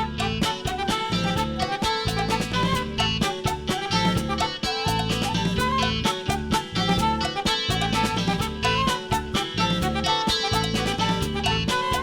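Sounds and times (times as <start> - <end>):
live band instrumental music: 0.0 - 12.0.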